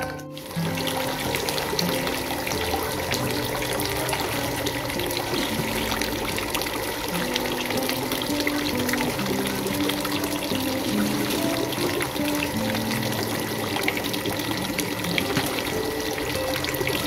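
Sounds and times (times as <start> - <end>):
soft background music: 0.0 - 17.0
water pouring into a sink basin: 0.0 - 17.0.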